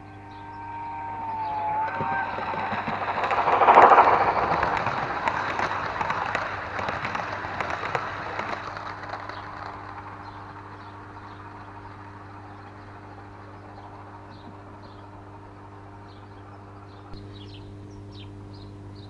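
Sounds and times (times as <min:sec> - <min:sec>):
model train wheels rumbling: 0:00.4 - 0:16.4.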